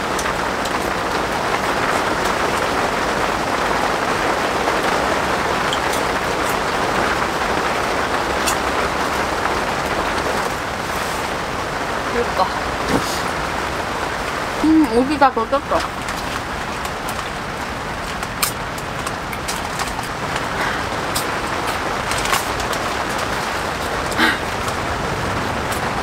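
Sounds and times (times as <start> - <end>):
rain pattering on tent canvas: 0.0 - 26.0.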